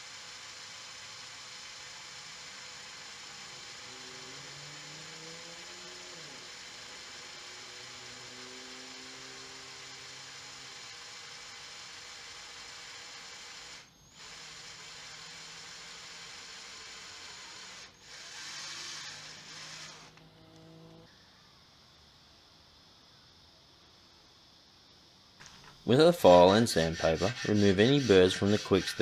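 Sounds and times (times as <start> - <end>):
electric drill boring: 0.0 - 21.1, 25.4 - 29.0.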